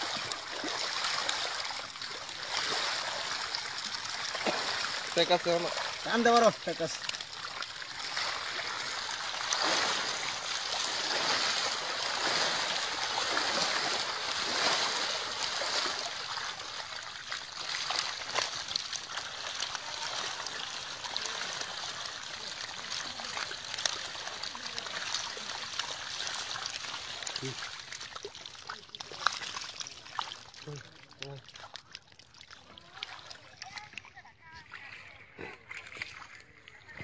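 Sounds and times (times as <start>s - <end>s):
running water hiss: 0.0s - 30.9s
fish thrashing in wet net: 0.0s - 34.2s.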